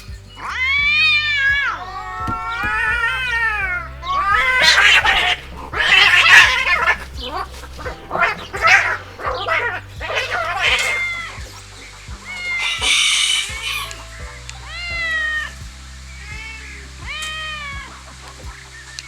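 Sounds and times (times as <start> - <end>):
kittens meowing: 0.0 - 18.6.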